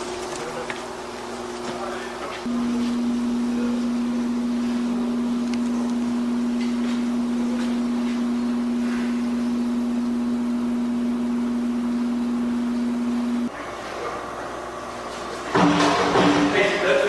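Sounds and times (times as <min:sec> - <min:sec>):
loud low steady hum: 0:00.0 - 0:17.0.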